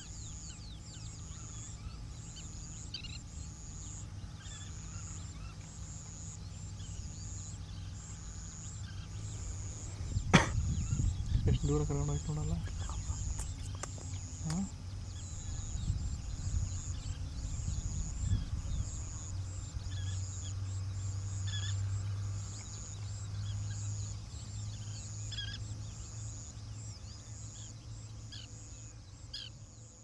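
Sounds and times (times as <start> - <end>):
steady low rumble: 0.0 - 29.7
bird calls: 0.0 - 30.0
high pulsing chirping: 0.0 - 30.0.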